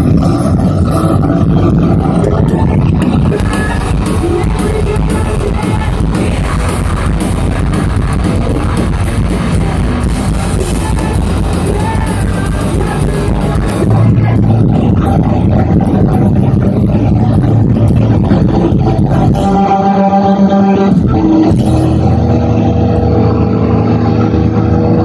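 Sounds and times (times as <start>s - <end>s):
bass: 0.0s - 25.0s
drums: 0.0s - 25.0s
guitar: 0.0s - 25.0s
live rock band playing: 0.0s - 25.0s
person singing: 0.0s - 25.0s.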